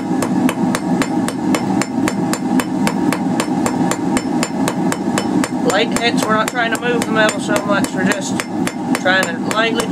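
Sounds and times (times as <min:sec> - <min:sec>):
hammer striking steel on anvil: 0:00.0 - 0:09.9.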